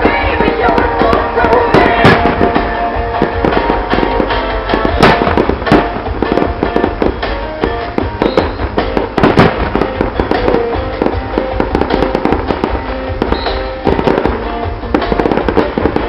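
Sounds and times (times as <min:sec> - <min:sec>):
fireworks bangs and crackles: 0:00.0 - 0:16.0
music: 0:00.0 - 0:16.0.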